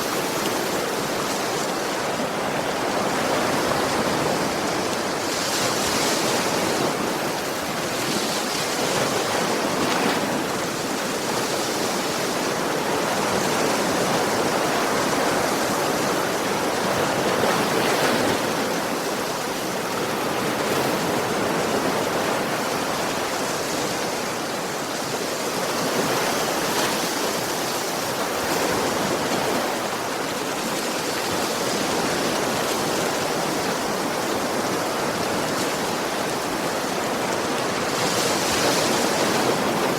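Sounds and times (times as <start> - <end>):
waves breaking on a shore: 0.0 - 39.9.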